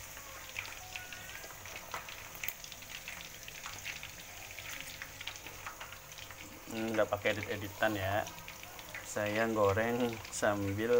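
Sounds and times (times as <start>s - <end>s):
chicken deep-frying in hot oil: 0.0s - 10.9s.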